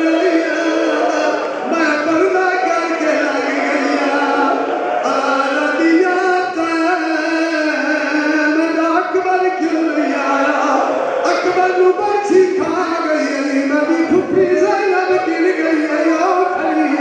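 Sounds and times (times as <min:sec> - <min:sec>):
man chanting into a microphone: 0:00.0 - 0:17.0.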